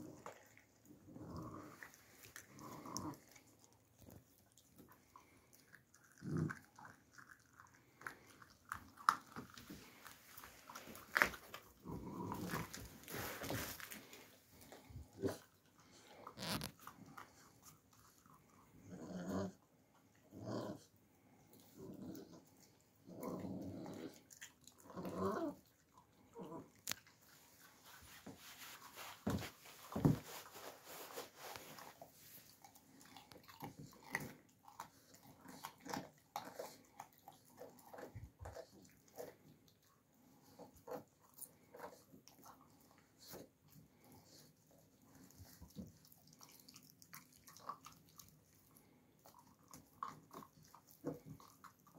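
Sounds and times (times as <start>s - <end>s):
puppy chewing meat: 0.0s - 20.4s, 21.2s - 51.9s.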